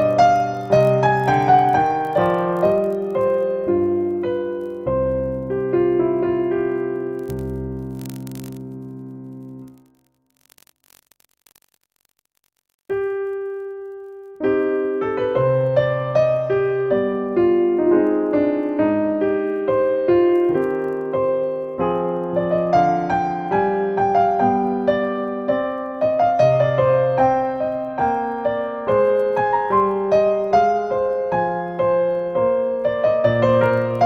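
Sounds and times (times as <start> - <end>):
solo piano music: 0.0 - 8.0, 12.9 - 34.0.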